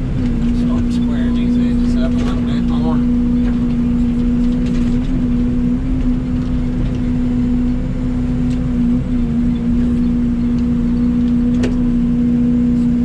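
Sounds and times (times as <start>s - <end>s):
mini excavator engine running: 0.0s - 13.0s.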